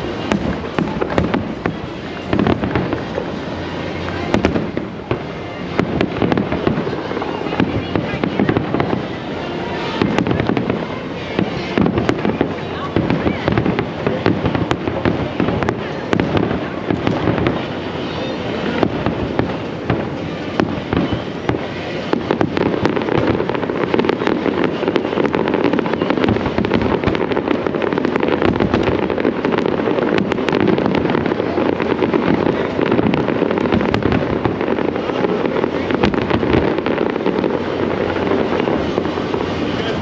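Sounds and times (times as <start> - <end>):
fireworks crackling and popping: 0.0 - 40.0.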